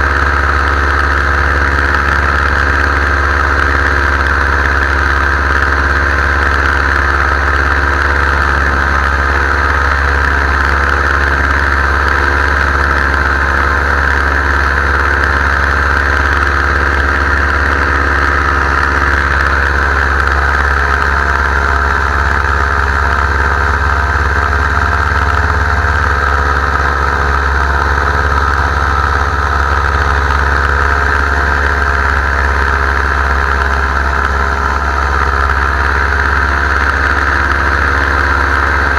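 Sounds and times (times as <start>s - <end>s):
paramotor engine and propeller running: 0.0s - 38.9s.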